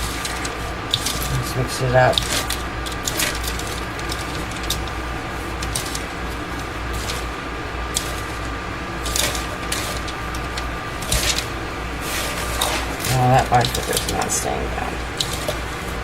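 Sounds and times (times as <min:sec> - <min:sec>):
dry powder stirred in a bowl: 0:00.0 - 0:16.0
fan humming: 0:00.0 - 0:16.0.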